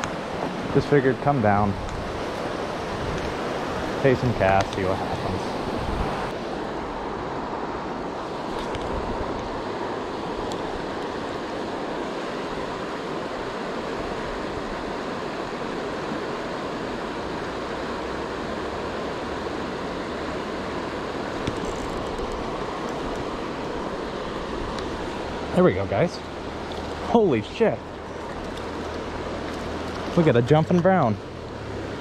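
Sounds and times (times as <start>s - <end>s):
fast-flowing river rushing: 0.0s - 32.0s.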